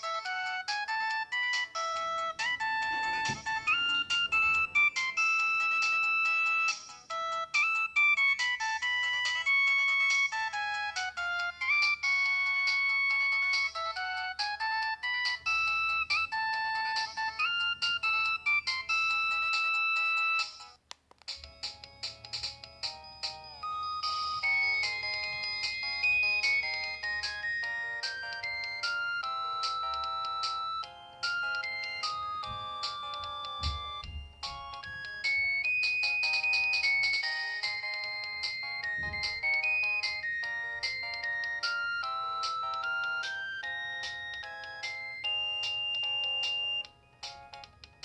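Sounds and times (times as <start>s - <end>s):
phone polyphonic ringtone: 0.0s - 48.0s.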